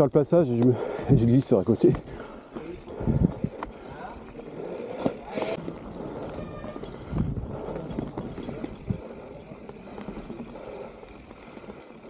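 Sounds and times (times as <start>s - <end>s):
bike rattling and scuffing: 0.6s - 12.0s.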